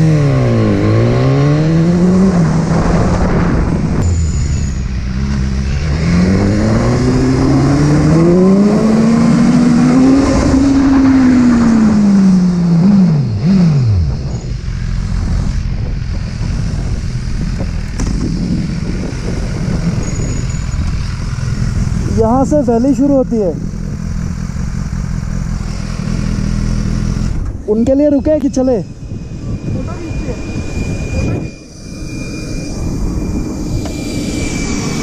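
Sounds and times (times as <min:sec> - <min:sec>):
motorcycle engine revving: 0:00.0 - 0:35.0
wind and road noise: 0:00.0 - 0:35.0.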